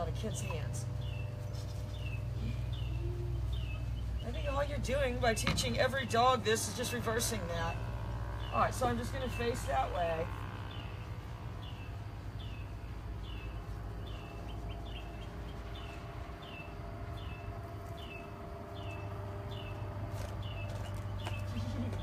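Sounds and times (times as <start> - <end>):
steady low hum: 0.0 - 22.0
bird chirping: 0.1 - 5.8, 6.8 - 22.0.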